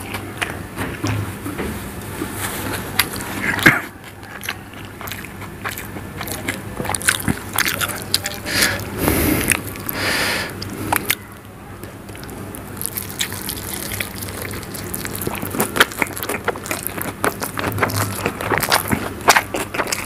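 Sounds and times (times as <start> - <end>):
wet chewing with smacking: 0.0 - 1.5, 2.6 - 20.0
food squelching and slurping: 2.4 - 11.2, 12.0 - 20.0.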